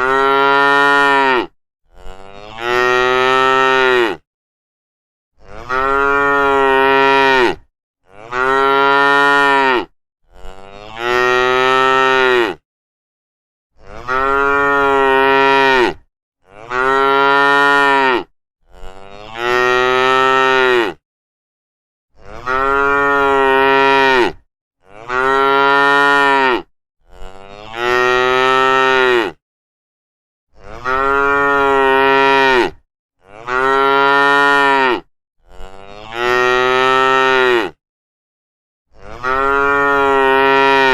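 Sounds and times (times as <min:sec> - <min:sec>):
cow mooing: 0:00.0 - 0:04.2, 0:05.4 - 0:12.6, 0:13.8 - 0:21.0, 0:22.2 - 0:29.4, 0:30.6 - 0:37.8, 0:38.9 - 0:40.9.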